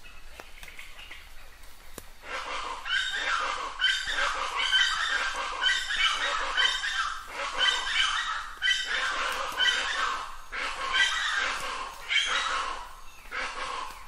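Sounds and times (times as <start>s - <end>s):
bird calling repeatedly: 0.0s - 14.0s.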